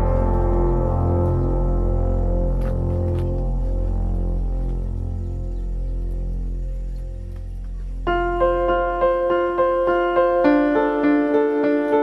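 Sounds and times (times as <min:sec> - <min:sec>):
low droning background music: 0:00.0 - 0:12.0.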